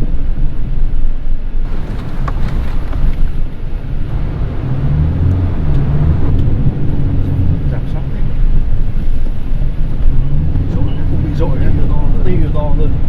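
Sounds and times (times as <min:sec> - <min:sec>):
pickup engine and road rumble: 0:01.6 - 0:12.6.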